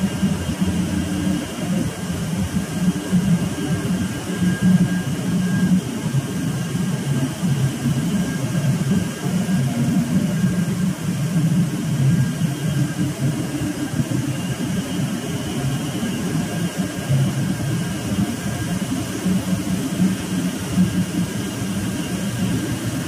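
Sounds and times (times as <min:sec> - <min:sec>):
low machinery drone: 0:00.0 - 0:23.0.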